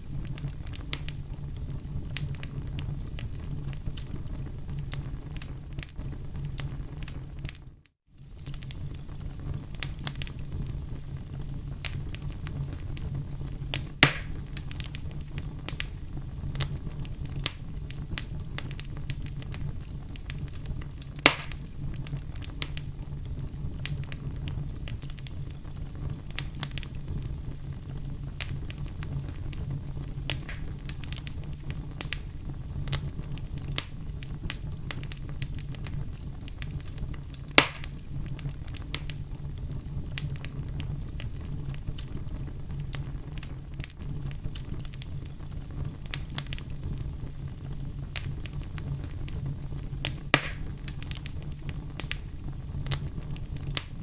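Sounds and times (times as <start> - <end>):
loud pops from fire: 0.0 - 54.0
wood fire crackling: 0.0 - 54.0.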